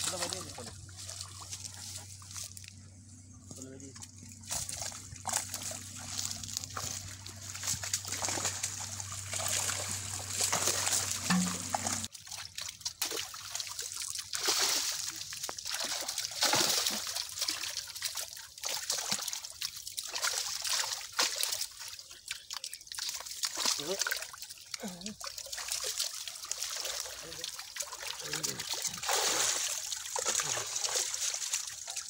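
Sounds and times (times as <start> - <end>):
water splashing and sloshing: 0.0 - 32.0
fish thrashing in water: 4.1 - 32.0.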